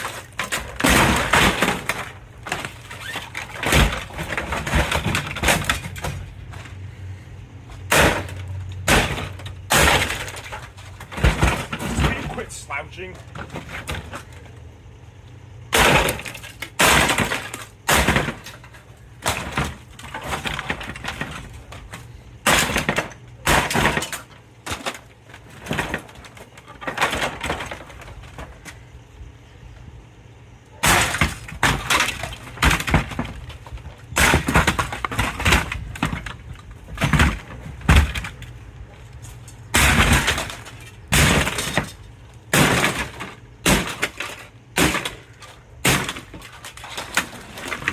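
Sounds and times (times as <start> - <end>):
plastic and glass breaking: 0.0 - 6.7, 7.9 - 14.2, 15.7 - 28.6, 30.8 - 38.6, 39.3 - 47.9.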